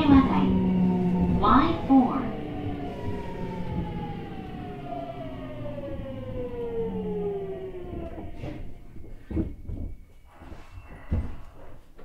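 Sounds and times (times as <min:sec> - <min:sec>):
knocks of slowing train: 0:00.0 - 0:11.5
train inverter whine: 0:00.0 - 0:11.8.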